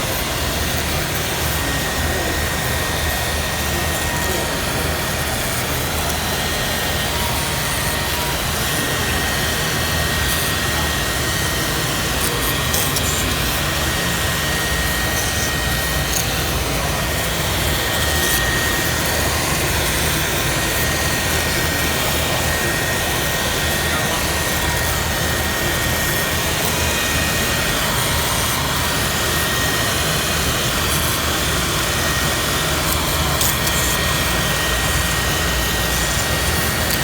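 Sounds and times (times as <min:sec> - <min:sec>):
machine noise with high whine: 0:00.0 - 0:37.0.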